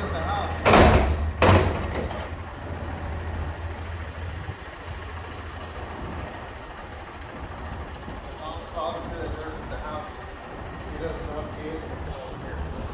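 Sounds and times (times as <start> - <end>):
garbage truck engine idling: 0.0 - 12.9.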